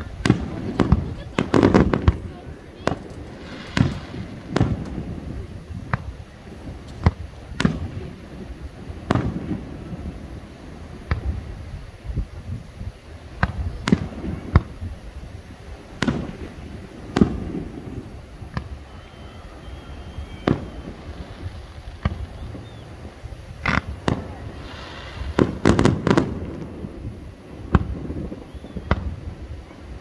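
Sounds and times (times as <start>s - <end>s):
fireworks bursting with rumbling echo: 0.0s - 30.0s.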